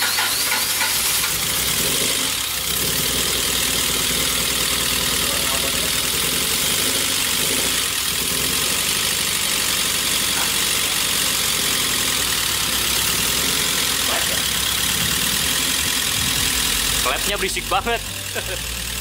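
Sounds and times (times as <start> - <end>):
engine idling with valve clatter: 0.0 - 19.0.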